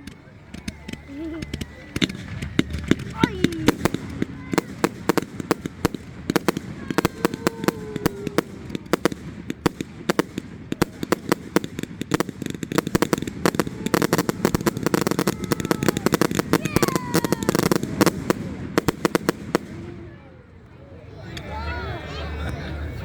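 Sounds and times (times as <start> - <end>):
fireworks bangs and crackles: 0.0 - 20.6
faint crowd voices: 0.0 - 23.0.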